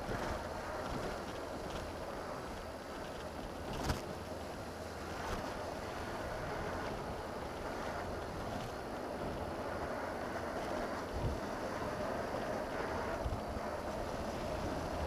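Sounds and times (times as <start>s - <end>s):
motorcycle wind and road noise: 0.0s - 15.0s.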